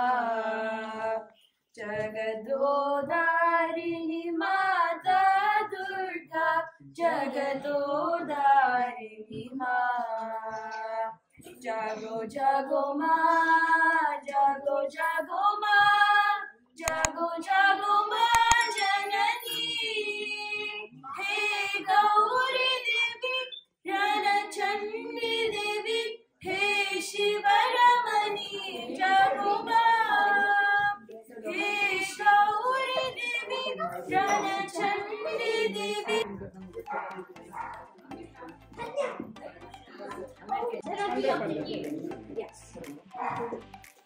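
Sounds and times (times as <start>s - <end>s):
women singing unaccompanied: 0.0s - 38.5s.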